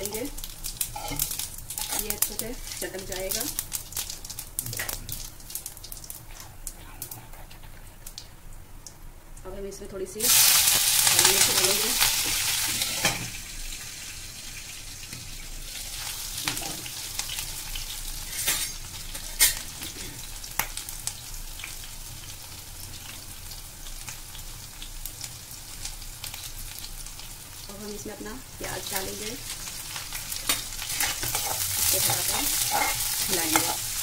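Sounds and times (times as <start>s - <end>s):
chillies sizzling in hot oil: 0.0s - 7.1s, 8.0s - 34.0s.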